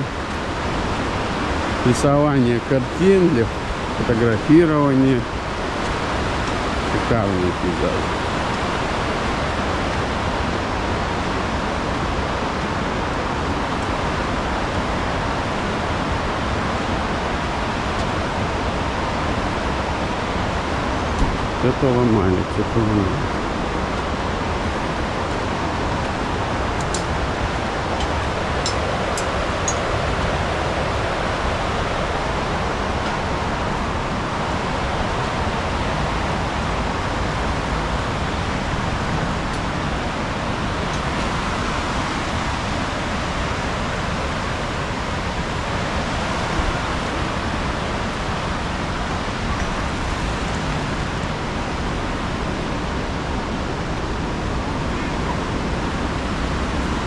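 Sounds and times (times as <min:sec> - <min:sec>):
river rushing: 0:00.0 - 0:57.0.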